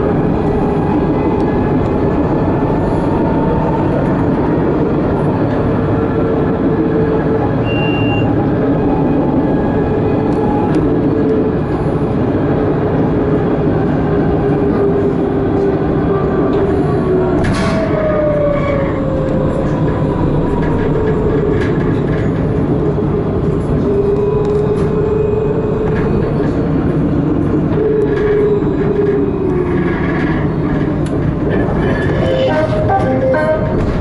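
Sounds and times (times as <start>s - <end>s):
tram motor whine: 0.0s - 34.0s
tram rolling along track: 0.0s - 34.0s.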